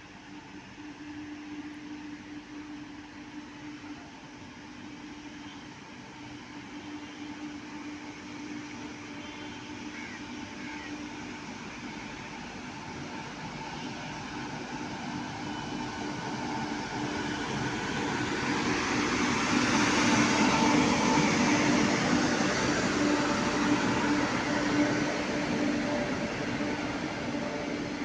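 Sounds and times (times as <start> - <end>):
train running noise: 0.0 - 28.0
wheels rattling on rail: 0.0 - 28.0.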